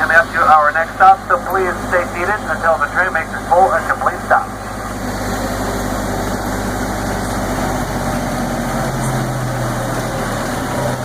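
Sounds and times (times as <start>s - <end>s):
tram engine running: 0.0s - 11.0s.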